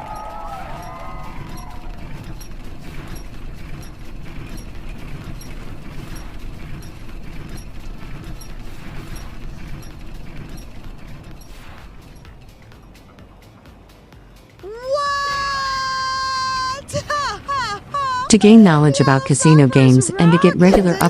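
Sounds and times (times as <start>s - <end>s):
low rumble of spinning wheel: 0.0s - 21.0s
wheel flapper ticking: 0.0s - 21.0s.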